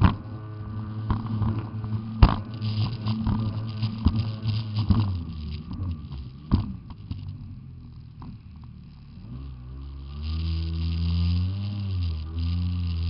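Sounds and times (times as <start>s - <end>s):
jet ski engine humming: 0.0s - 13.0s.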